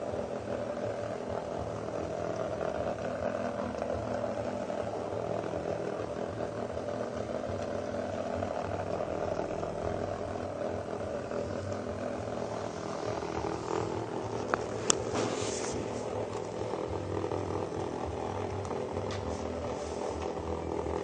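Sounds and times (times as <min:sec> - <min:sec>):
vibrating toys buzzing: 0:00.0 - 0:21.0.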